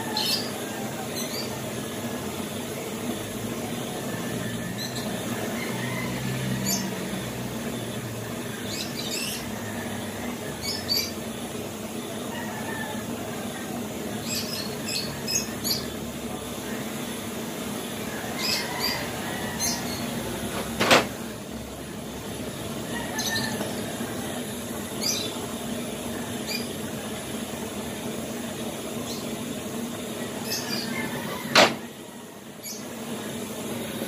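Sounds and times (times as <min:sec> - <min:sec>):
gas torch flame hissing: 0:00.0 - 0:34.0.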